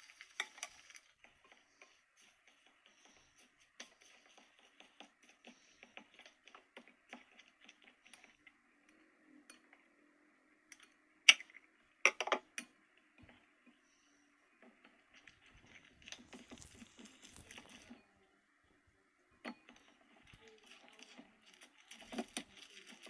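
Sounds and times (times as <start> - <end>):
spatula stirring foam beads: 0.0 - 23.0.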